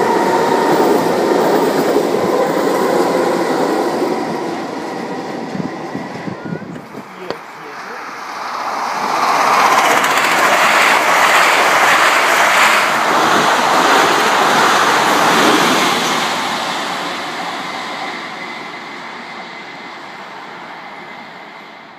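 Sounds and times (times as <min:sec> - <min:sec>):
train wheels rolling on rails: 0:00.0 - 0:21.9.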